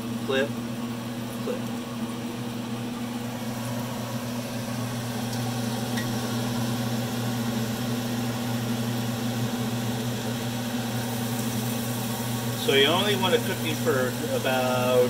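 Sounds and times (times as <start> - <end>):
constant low hum: 0.0 - 15.0
fish sizzling in hot oil: 1.9 - 15.0.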